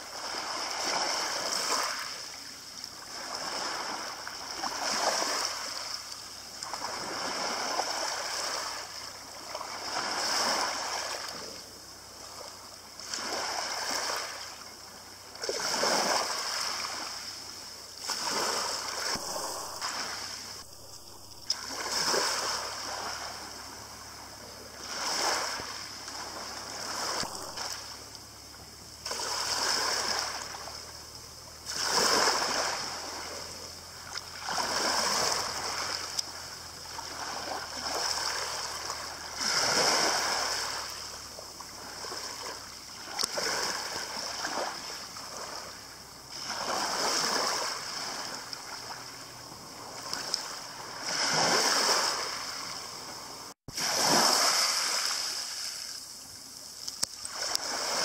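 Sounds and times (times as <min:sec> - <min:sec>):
small waves lapping on pebbles: 0:00.0 - 0:58.0.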